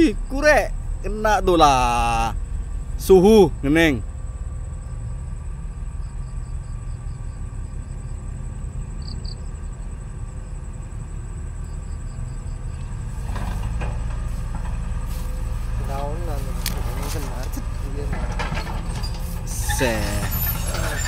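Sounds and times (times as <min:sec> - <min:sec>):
heavy machinery engine rumble: 0:00.0 - 0:21.0.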